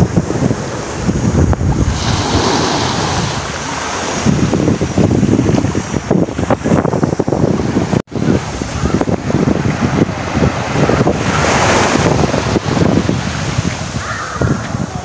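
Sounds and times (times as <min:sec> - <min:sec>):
small waves washing up a beach: 0:00.0 - 0:06.7, 0:07.6 - 0:15.0
wind buffeting the microphone: 0:00.0 - 0:15.0.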